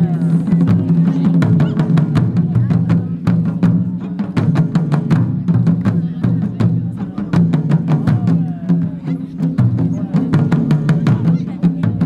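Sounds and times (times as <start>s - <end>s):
large barrel drums booming: 0.0s - 12.0s.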